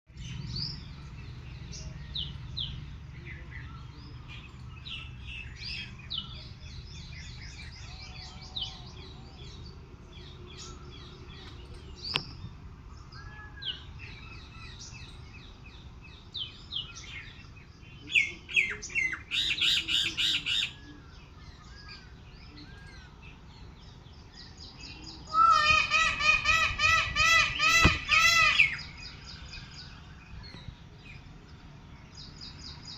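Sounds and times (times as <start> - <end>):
birds chirping: 0.1 - 32.9
low background noise: 0.1 - 32.9.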